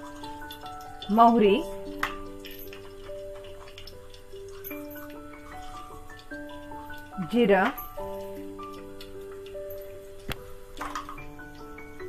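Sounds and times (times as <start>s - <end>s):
gentle instrumental background music: 0.0s - 12.0s.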